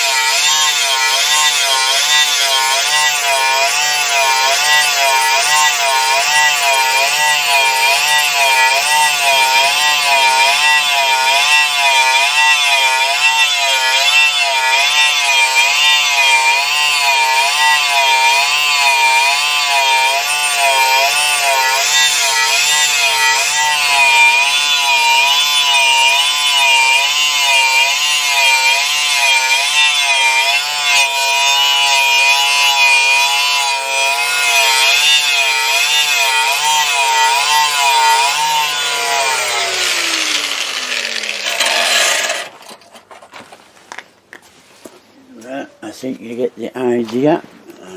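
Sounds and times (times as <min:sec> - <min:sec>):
rhythmic sawing: 0:00.0 - 0:42.7.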